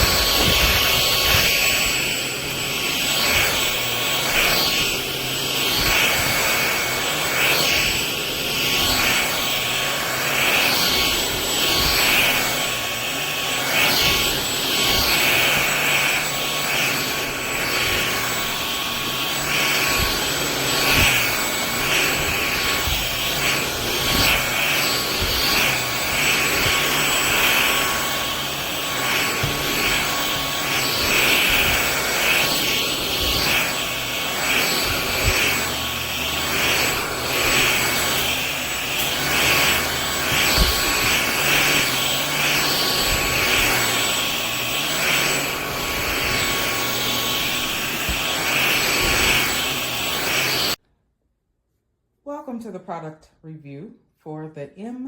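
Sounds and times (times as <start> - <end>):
stick vacuum running: 0.0 - 50.8.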